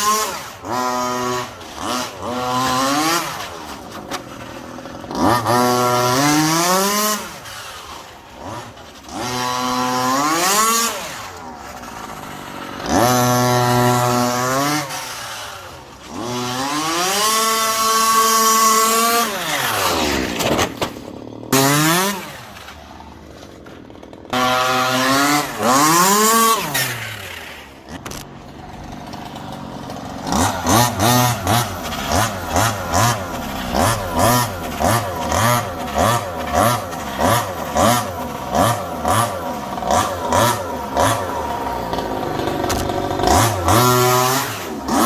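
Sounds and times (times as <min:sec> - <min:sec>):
two-stroke engine revving: 0:00.0 - 0:45.0.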